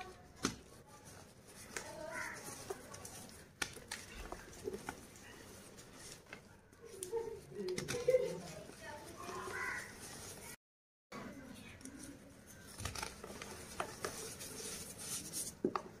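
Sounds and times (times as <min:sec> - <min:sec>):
chalk pieces cracking: 0:00.0 - 0:10.5, 0:11.8 - 0:15.9
chalk crumbling by hand: 0:00.0 - 0:10.6, 0:11.8 - 0:15.9.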